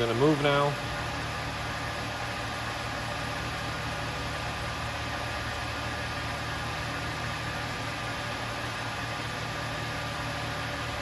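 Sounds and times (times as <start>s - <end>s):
faint machine whine: 0.0s - 11.0s
milling machine hum: 0.0s - 11.0s.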